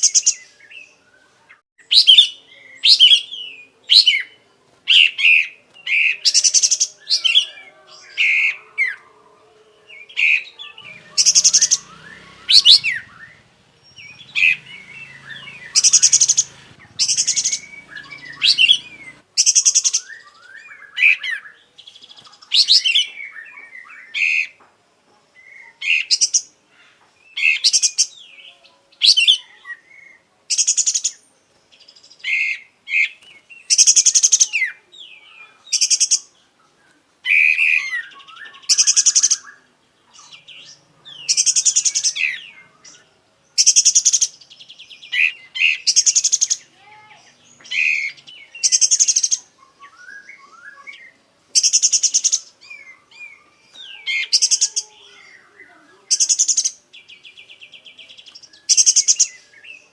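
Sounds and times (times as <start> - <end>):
bulbul singing trills and whistles: 0.0 - 9.0, 9.9 - 24.6, 27.2 - 36.6, 37.2 - 59.9.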